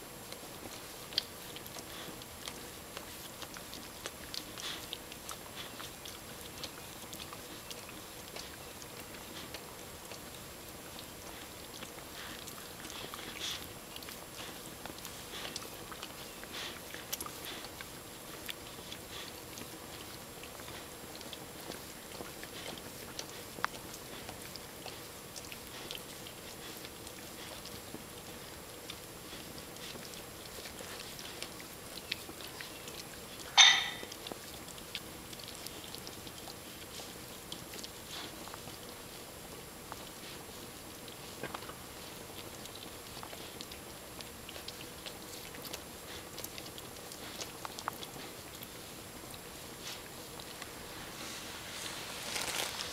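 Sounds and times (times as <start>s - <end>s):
animals licking fur: 0.0s - 52.9s.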